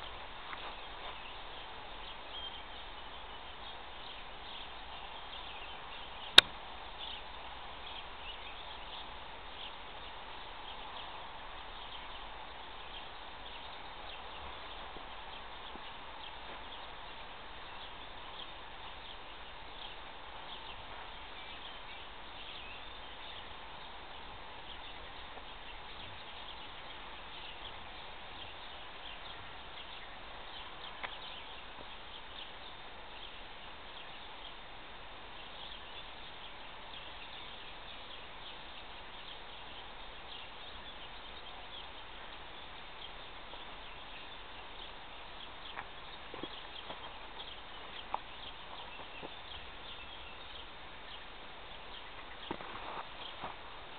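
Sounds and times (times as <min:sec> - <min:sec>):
outdoor background noise: 0:00.0 - 0:53.9.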